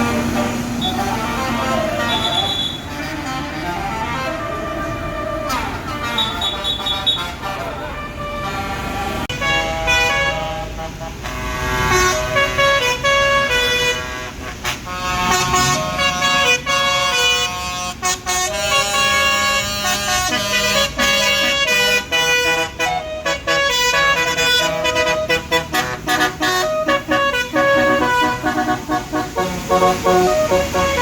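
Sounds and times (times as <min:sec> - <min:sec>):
low vehicle rumble: 0:00.0 - 0:31.0
multi-note air horn tune: 0:00.0 - 0:31.0.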